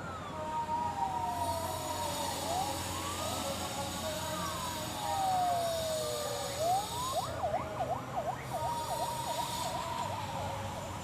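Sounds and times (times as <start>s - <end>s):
train siren wailing and yelping: 0.0s - 10.9s.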